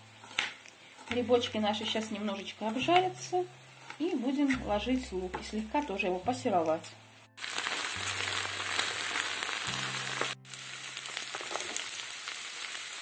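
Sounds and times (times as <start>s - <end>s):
mushrooms sizzling in a frying pan: 0.0s - 6.8s, 7.4s - 13.0s.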